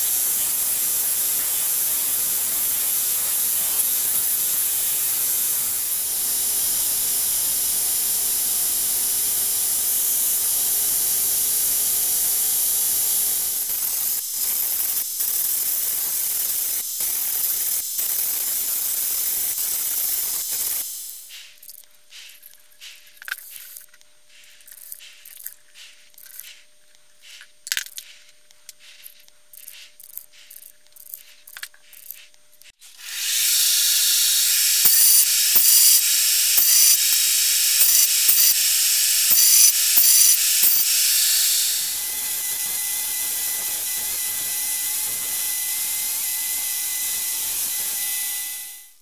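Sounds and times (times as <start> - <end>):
belt grinder sanding: 0.0 - 48.9.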